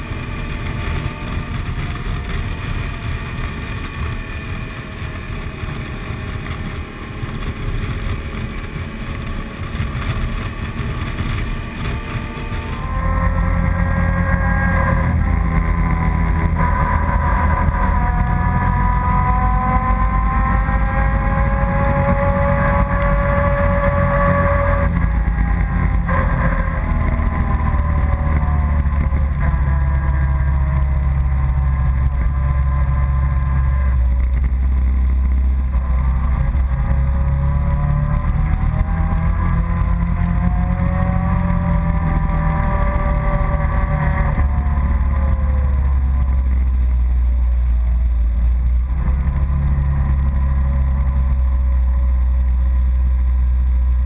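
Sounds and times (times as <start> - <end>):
atv engine running: 0.0 - 54.0
engine whine rising and falling: 0.0 - 54.0.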